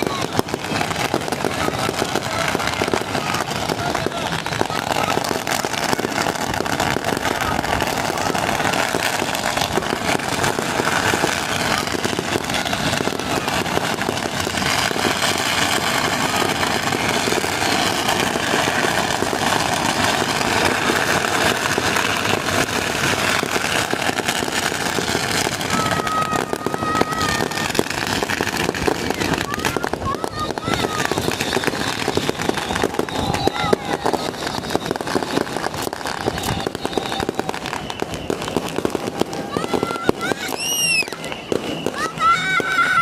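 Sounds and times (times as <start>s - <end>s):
firecrackers crackling: 0.0s - 43.0s.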